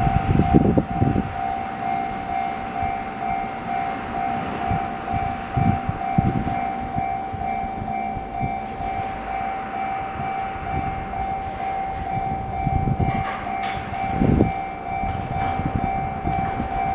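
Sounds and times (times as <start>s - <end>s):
level-crossing alarm bell dinging: 0.0s - 16.9s
train rumbling past: 0.0s - 16.9s.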